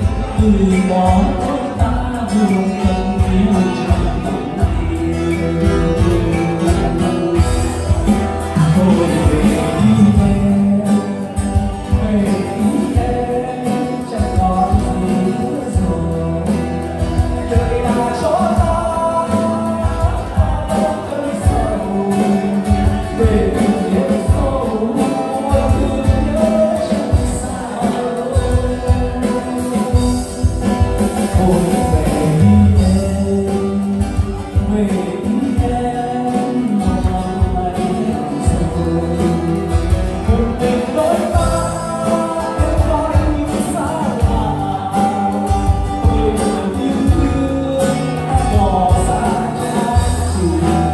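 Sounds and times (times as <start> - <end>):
guitars: 0.0 - 50.9
person singing: 0.0 - 50.9
steady drum beat: 0.0 - 50.9.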